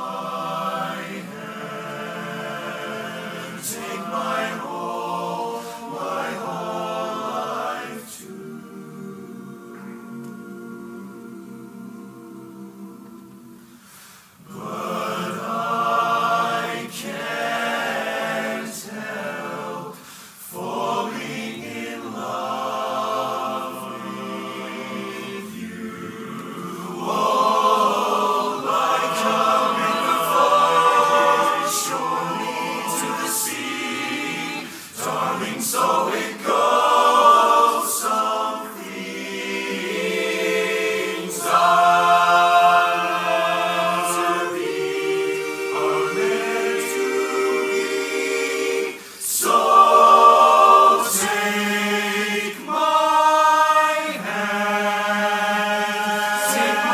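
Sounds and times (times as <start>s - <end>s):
men's chorus singing a cappella: 0.0s - 56.9s.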